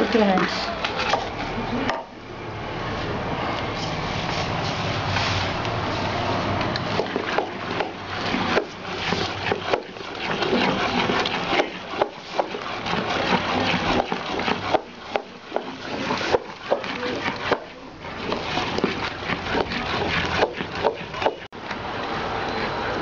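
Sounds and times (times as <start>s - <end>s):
wooden spoon beating batter in pot: 0.0s - 2.1s, 3.7s - 23.0s.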